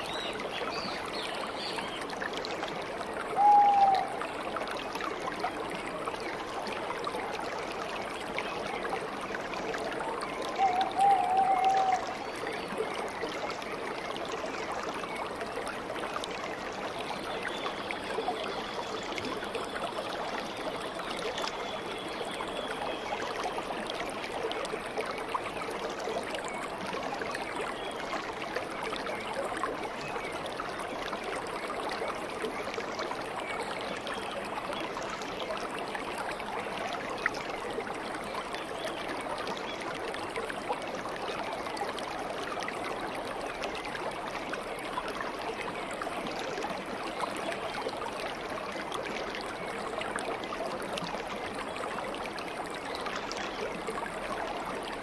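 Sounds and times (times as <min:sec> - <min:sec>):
stream water babbling over stones: 0:00.0 - 0:55.0.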